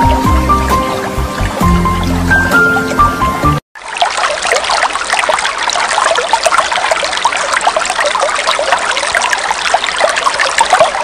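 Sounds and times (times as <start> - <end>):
stream babbling over rocks: 0.0 - 11.0.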